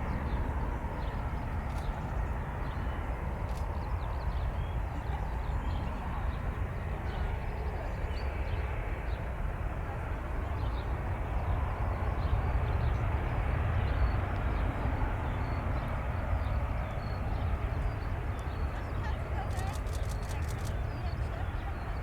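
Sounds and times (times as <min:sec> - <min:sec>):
distant jet engines rumbling: 0:00.0 - 0:22.0.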